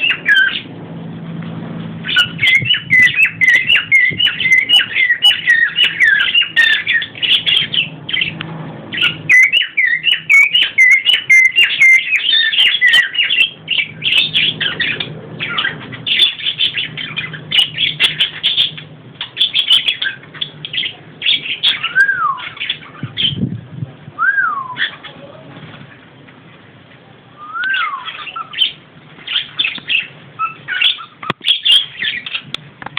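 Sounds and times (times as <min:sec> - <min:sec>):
budgerigars chattering: 0:00.0 - 0:00.7, 0:02.0 - 0:23.5, 0:27.7 - 0:32.6
cockatiel whistling: 0:00.0 - 0:00.7, 0:02.0 - 0:08.3, 0:09.0 - 0:23.4, 0:27.4 - 0:32.4.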